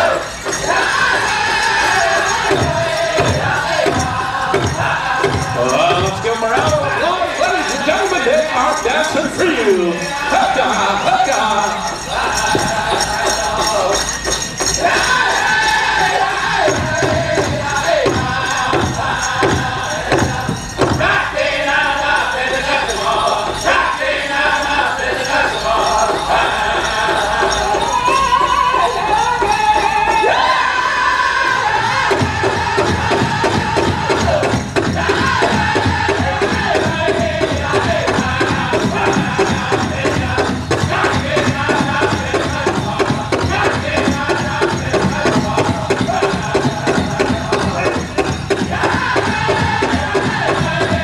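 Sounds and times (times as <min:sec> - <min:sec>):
steady big drum beat: 0:00.0 - 0:21.4, 0:25.6 - 0:51.0
bells jingling: 0:00.0 - 0:51.0
group singing: 0:00.0 - 0:51.0.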